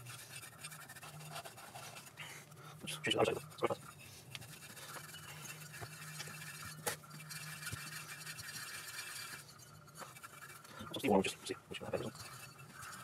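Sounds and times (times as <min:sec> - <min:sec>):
gloved hands scraping metal: 0:00.0 - 0:13.0
low steady hum: 0:00.0 - 0:13.0.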